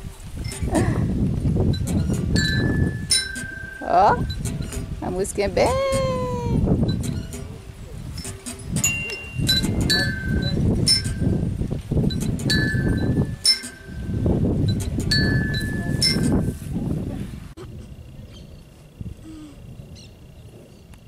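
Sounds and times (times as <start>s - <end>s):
swing metallic ringing: 0.0s - 16.9s
low rumbling noise: 0.0s - 21.0s.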